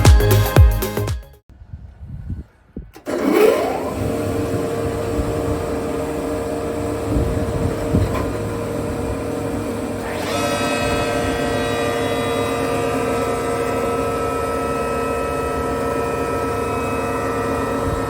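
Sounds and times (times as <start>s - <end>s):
table saw spinning up: 3.0s - 18.0s.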